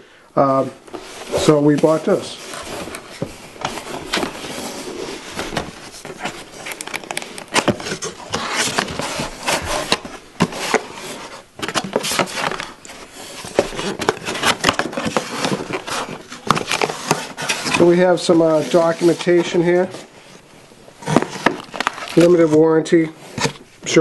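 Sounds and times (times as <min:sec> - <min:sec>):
cardboard flaps scraping and rustling: 0:00.6 - 0:20.4, 0:21.0 - 0:24.0.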